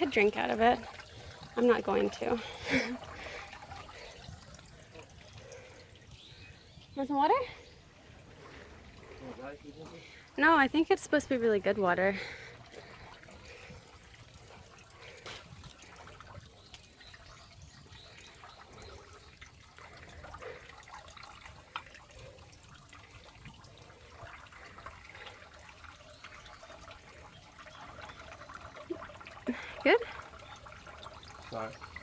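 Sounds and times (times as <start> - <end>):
faint trickling water: 0.0 - 32.0
small drips and ticks: 0.0 - 32.0.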